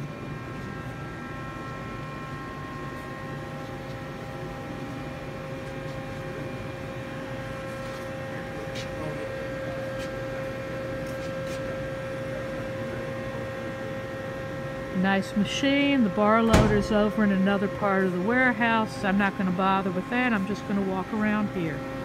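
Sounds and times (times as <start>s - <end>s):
steady whining tones: 0.0s - 22.0s.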